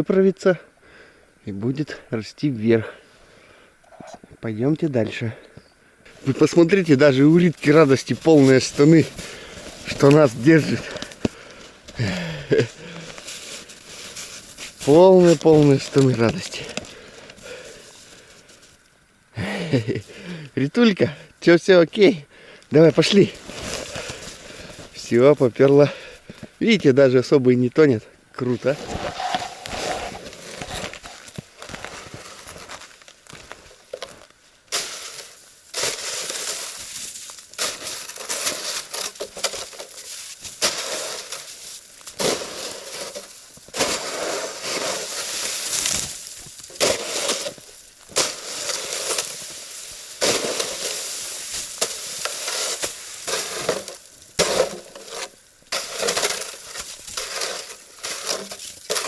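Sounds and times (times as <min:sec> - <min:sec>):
footsteps crunching on snow crust: 0:06.1 - 0:18.8, 0:22.7 - 0:27.2, 0:27.9 - 0:59.0.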